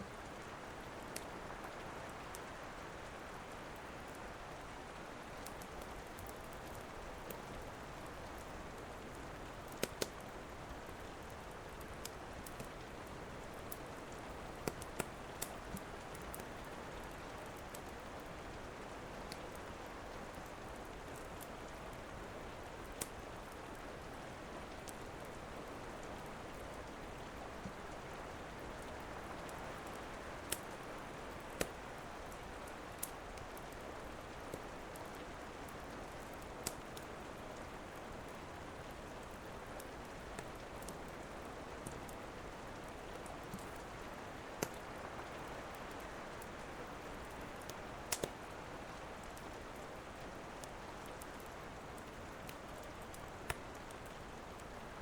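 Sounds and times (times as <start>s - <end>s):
steady rain: 0.0s - 55.0s
wood fire popping and crackling: 0.1s - 55.0s.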